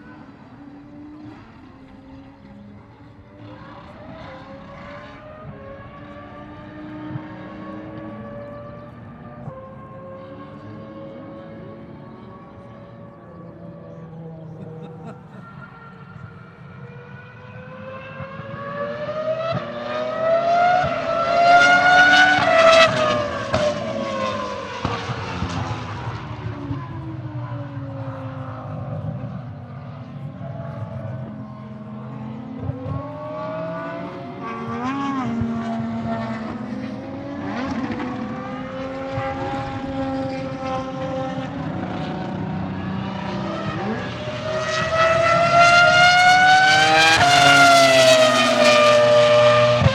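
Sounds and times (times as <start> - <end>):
racing car engine at high revs: 0.0 - 49.9.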